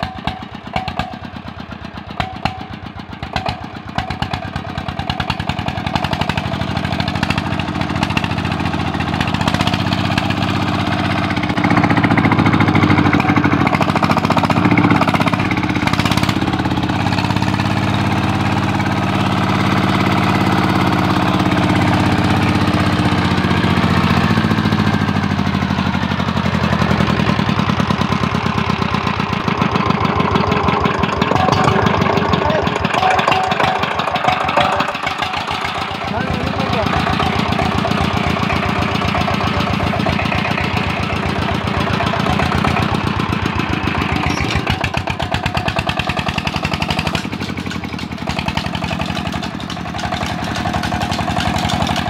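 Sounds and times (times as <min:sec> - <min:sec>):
diesel pump engine running: 0:00.0 - 0:52.0.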